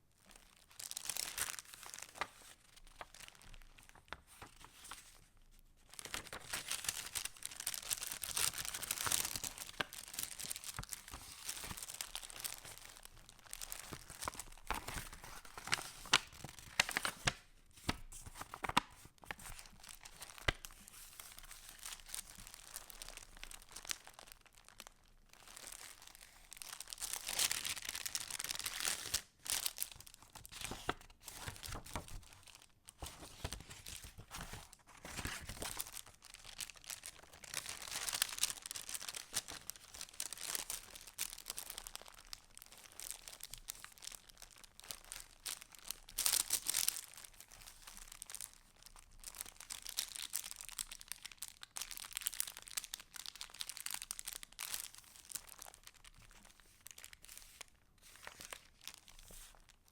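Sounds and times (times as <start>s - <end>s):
paper rustling and crinkling: 0.3s - 5.3s, 5.9s - 24.8s, 25.4s - 50.5s, 52.5s - 59.9s.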